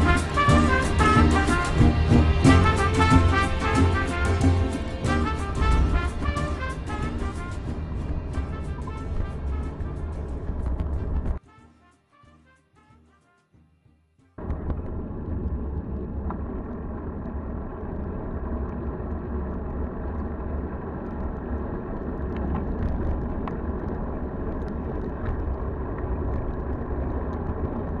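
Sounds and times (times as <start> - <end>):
wind and road noise: 0.0 - 11.4, 14.4 - 28.0
wind rumble on microphone: 0.0 - 11.4, 14.4 - 28.0.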